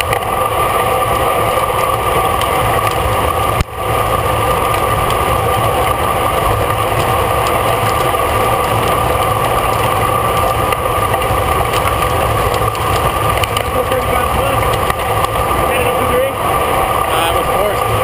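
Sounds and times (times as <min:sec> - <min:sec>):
bicycle whirring hum: 0:00.0 - 0:18.0.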